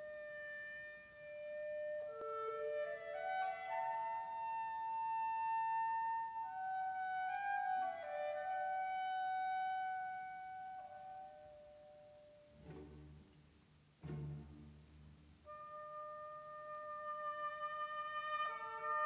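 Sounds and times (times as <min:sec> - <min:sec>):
slow instrumental film music: 0:00.0 - 0:19.0.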